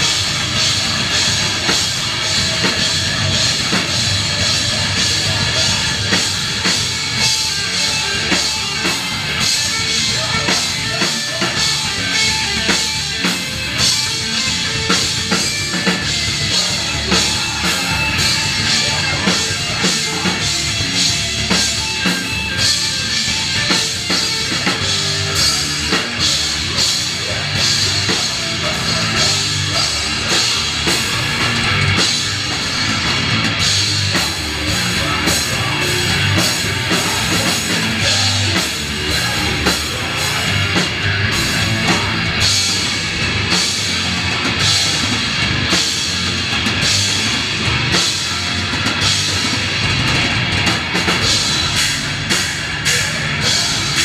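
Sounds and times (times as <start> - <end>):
drum kit hits: 0.0 - 54.0
heavy rock band playing: 0.0 - 54.0.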